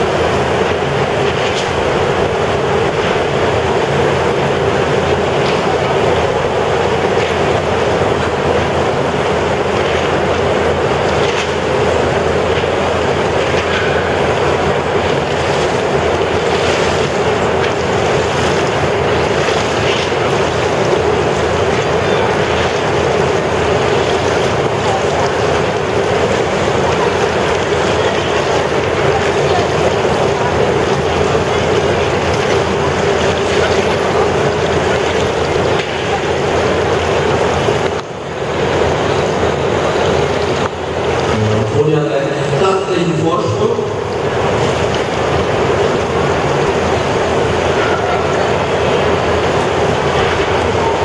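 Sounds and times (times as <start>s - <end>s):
low hum: 0.0s - 48.2s
loud rush of fan wind: 0.0s - 51.0s.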